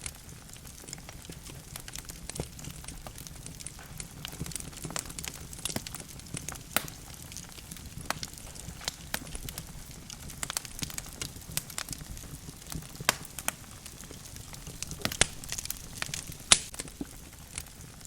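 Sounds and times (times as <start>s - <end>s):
logs crackling and popping: 0.0s - 18.0s
low rumble of flame: 0.0s - 18.0s.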